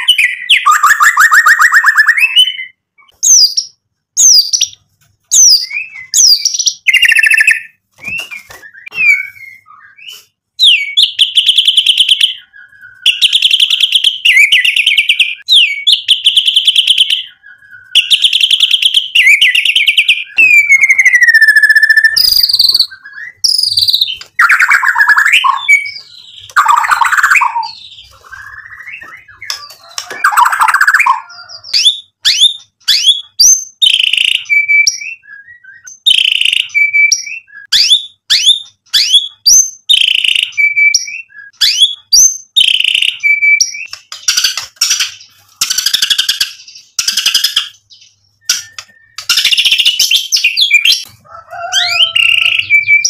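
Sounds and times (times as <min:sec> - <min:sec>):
songbird singing: 0:00.0 - 0:53.0.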